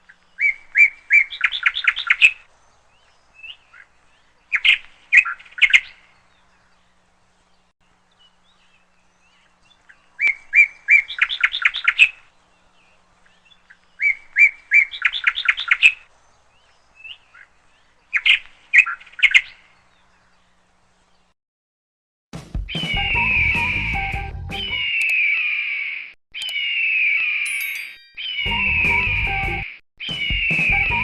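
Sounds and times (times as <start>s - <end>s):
songbird chirping: 0.0s - 21.4s, 22.7s - 31.0s.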